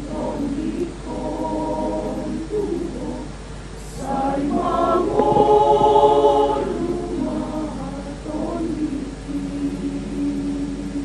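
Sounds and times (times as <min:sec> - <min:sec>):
women's choir singing chords: 0:00.0 - 0:11.0.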